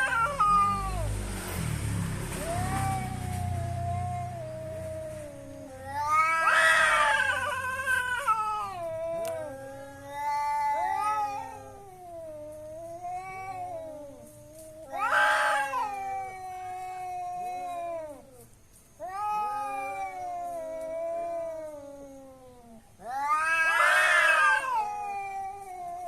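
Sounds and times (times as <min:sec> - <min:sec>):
cats yowling and screeching: 0:00.0 - 0:26.0.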